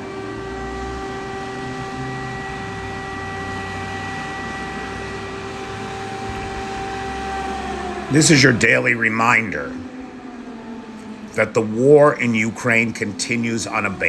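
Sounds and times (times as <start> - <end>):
air raid siren steady tone: 0.0 - 14.0.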